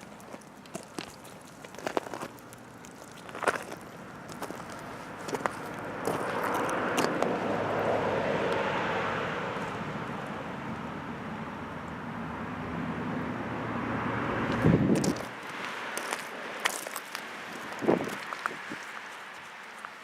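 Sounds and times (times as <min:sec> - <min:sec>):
passing vehicle engine and road noise: 0:00.0 - 0:20.0.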